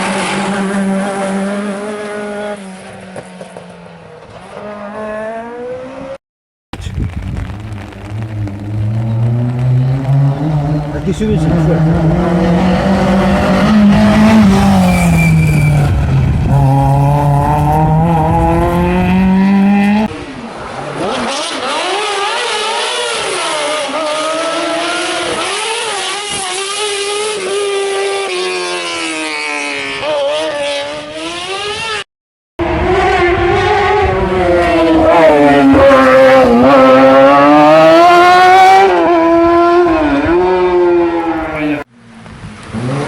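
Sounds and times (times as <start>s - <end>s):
rally car engines revving: 0.0s - 6.2s, 7.1s - 43.0s.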